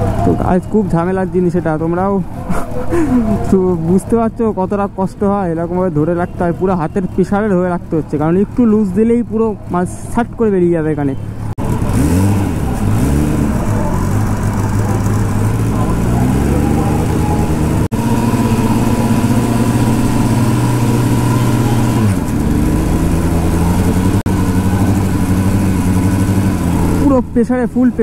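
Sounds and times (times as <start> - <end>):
motorcycle engine running: 0.0 - 2.4, 3.3 - 28.0.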